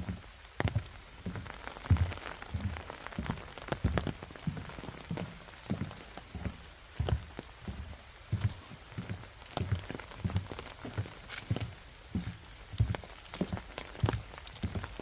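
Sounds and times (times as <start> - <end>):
footsteps on forest path: 0.0 - 15.0
rain dripping onto a surface: 0.0 - 15.0
steady rain hiss: 0.0 - 15.0.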